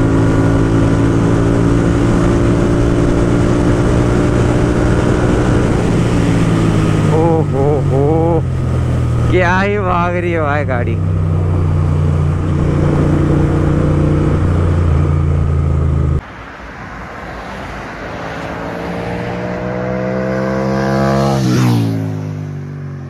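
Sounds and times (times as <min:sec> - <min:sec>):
motorcycle engine at speed: 0:00.0 - 0:16.2, 0:18.3 - 0:23.0
motorcycle passing by: 0:00.0 - 0:16.2, 0:17.2 - 0:23.0.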